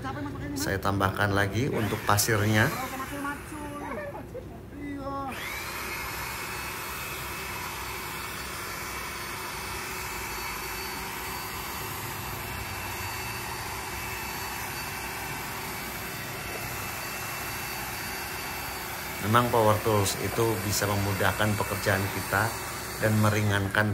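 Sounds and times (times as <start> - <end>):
electric paddle mixer whining: 1.2 - 4.0, 5.1 - 23.9.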